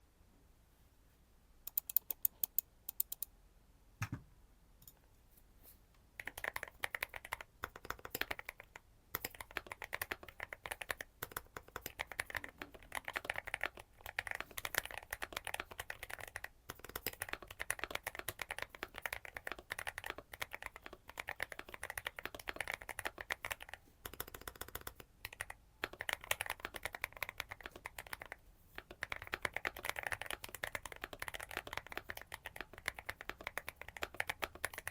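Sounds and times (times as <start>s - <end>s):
mechanical keyboard typing: 1.7s - 3.3s, 6.2s - 34.9s.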